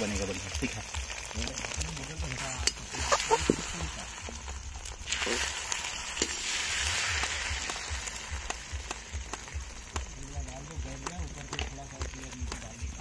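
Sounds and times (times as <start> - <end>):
egg batter sizzling: 0.0 - 13.0.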